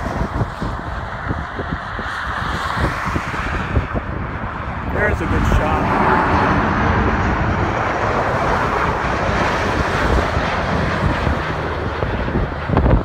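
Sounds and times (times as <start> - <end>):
jet engine passing overhead: 0.0 - 13.0
wind rumble on microphone: 0.0 - 13.0.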